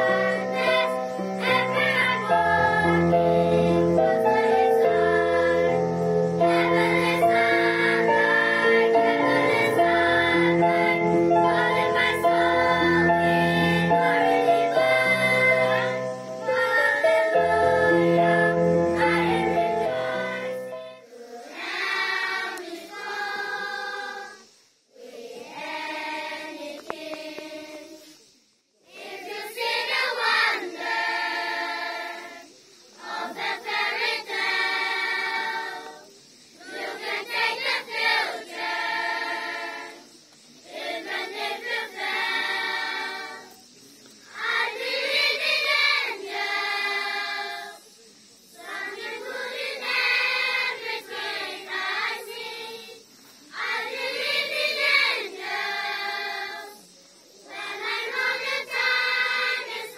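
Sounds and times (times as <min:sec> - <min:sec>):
children's choir singing unaccompanied: 0:00.0 - 0:59.9.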